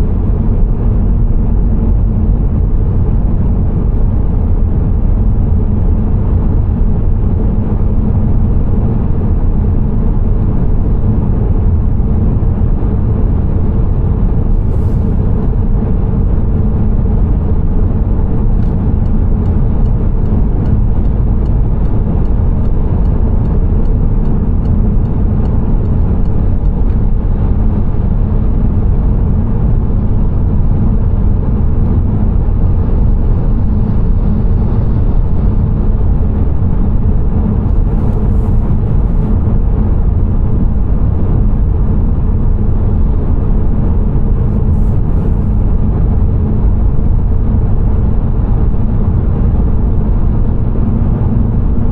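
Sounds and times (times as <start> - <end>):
car driving on road: 0.0 - 51.8.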